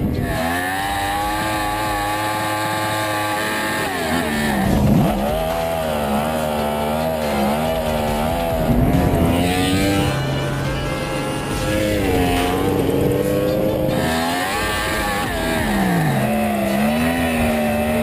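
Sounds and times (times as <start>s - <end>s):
motorcycle engine revving high: 0.0s - 18.0s.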